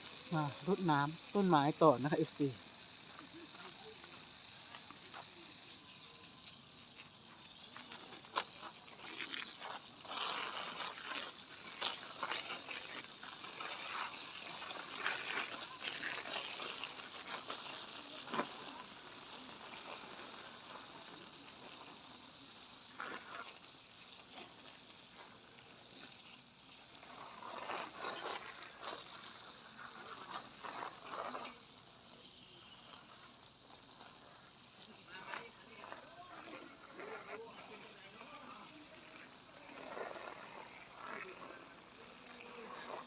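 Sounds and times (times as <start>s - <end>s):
water splashing onto plants and soil: 0.0s - 43.0s.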